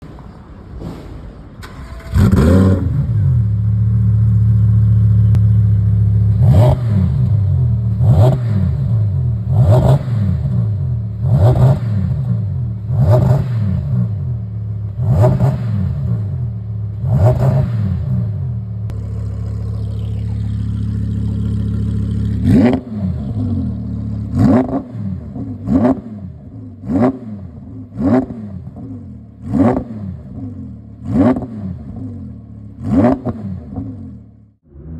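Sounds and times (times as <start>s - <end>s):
sports car engine idling: 1.6s - 32.9s
sports car engine revving: 1.6s - 34.9s.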